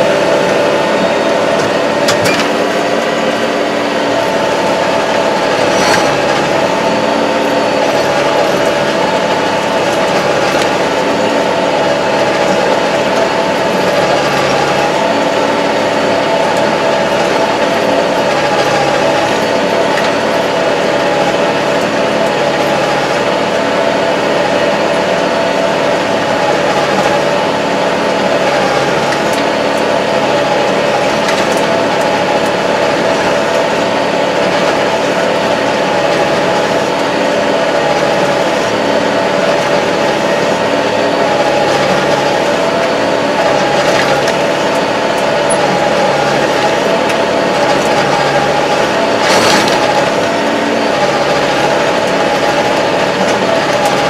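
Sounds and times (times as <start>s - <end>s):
tractor diesel engine drone: 0.0s - 54.0s.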